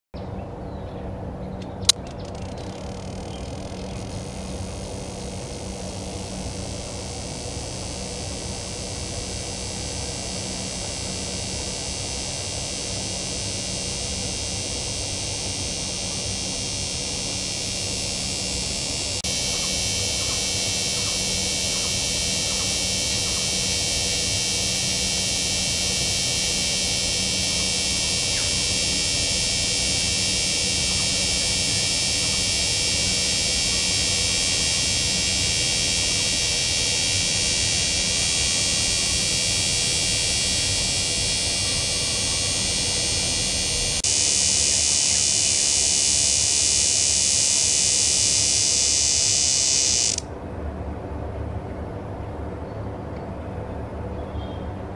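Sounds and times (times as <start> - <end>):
cicada buzzing: 1.6 - 50.3.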